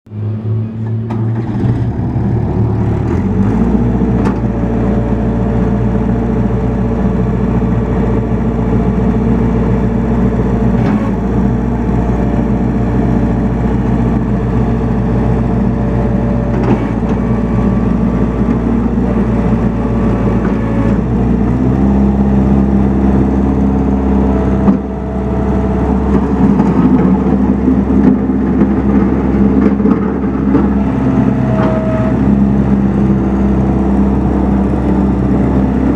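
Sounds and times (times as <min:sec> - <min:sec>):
diesel engine running: 0:00.1 - 0:35.9.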